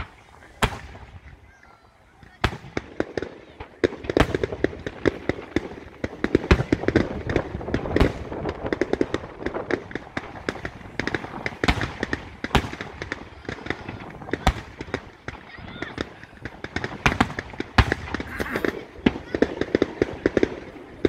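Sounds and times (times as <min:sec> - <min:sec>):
fireworks bursting: 0:00.0 - 0:21.0
loud fireworks booms: 0:00.0 - 0:21.0.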